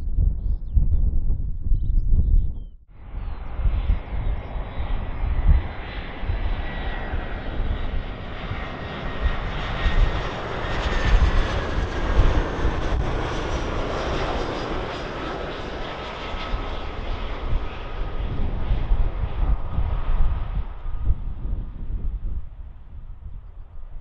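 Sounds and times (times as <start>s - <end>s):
wind buffeting microphone: 0.0s - 24.0s
airliner engines passing: 2.9s - 24.0s.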